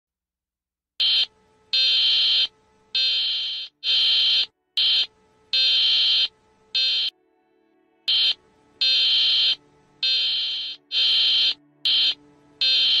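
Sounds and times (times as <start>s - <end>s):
harsh electronic alarm buzzing: 1.0s - 7.1s, 8.1s - 13.0s.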